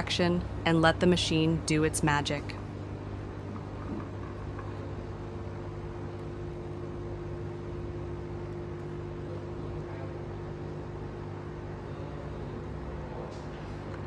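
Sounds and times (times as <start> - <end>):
espresso machine pump humming: 0.0 - 14.0.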